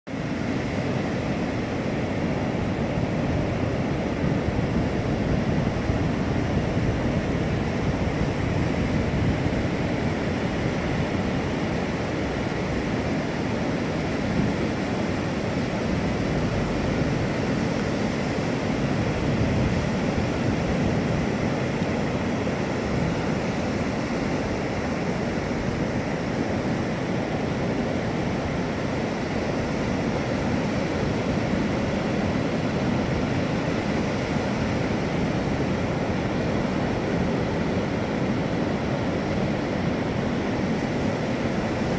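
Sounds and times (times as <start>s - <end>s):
ocean surf breaking: 0.1s - 41.9s
wind on microphone: 0.1s - 41.9s.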